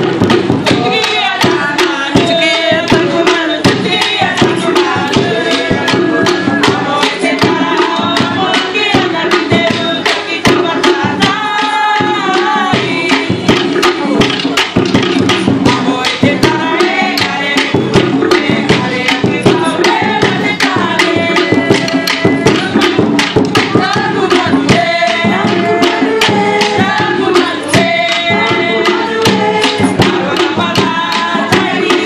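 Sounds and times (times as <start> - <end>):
fast drumbeat: 0.0 - 32.0
voices singing: 0.0 - 32.0.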